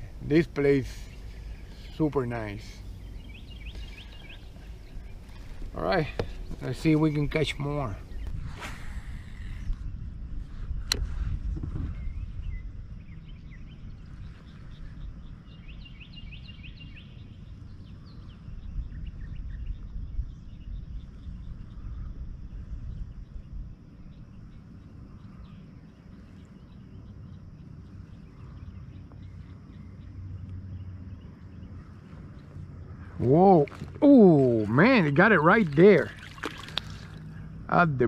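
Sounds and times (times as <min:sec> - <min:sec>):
birds chirping: 0:00.0 - 0:10.1, 0:11.7 - 0:38.0
wind rumble on microphone: 0:00.0 - 0:38.0.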